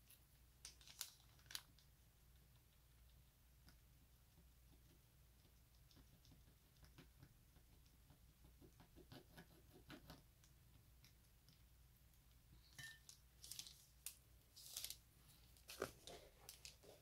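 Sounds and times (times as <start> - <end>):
paint pots clicking and tapping: 0.0 - 17.0.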